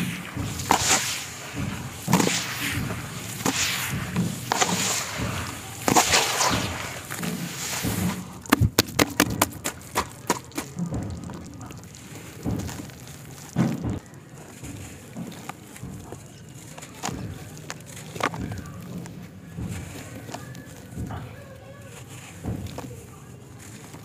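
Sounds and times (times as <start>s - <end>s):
hands squelching wet mud: 0.0s - 24.0s.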